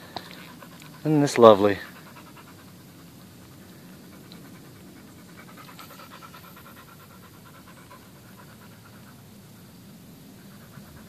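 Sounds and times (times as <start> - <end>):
dog panting rapidly: 0.0 - 11.0.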